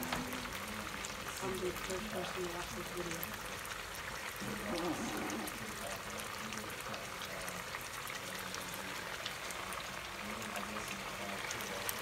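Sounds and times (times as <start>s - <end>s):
sauce bubbling and sizzling: 0.0s - 12.0s.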